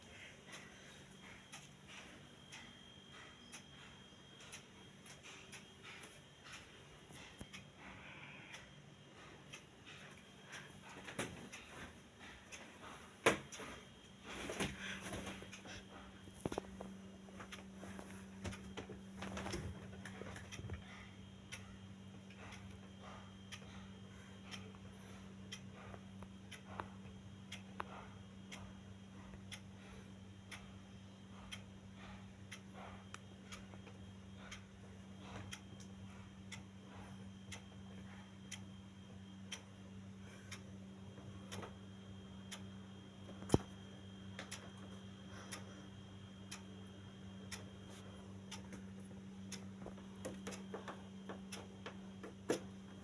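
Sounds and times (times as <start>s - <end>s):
steady low hum: 0.0s - 53.0s
clock ticking faintly: 0.1s - 53.0s.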